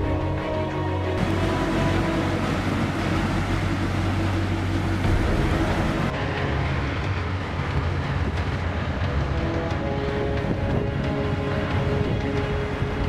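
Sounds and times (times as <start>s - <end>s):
low steady tones: 0.0s - 13.0s
tugboat engines rumbling: 0.0s - 13.0s
water noise: 0.0s - 13.0s.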